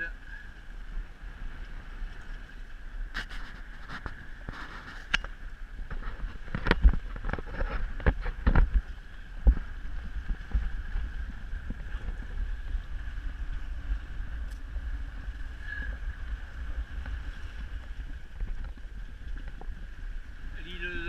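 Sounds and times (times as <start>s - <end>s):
water rushing along a hull: 0.0s - 21.0s
wind rumble on microphone: 0.0s - 21.0s.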